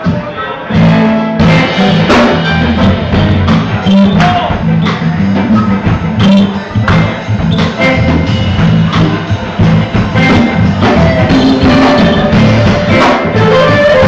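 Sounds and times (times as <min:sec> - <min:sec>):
bass line: 0:00.0 - 0:14.0
drum kit: 0:00.0 - 0:14.0
electric guitars: 0:00.0 - 0:14.0
harmonica through microphone: 0:00.1 - 0:14.0.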